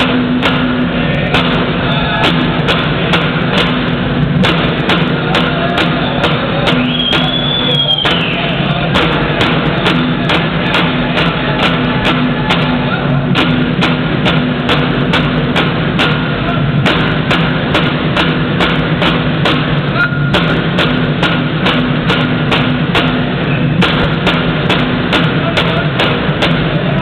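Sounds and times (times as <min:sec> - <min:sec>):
frame drums beating: 0:00.0 - 0:27.0.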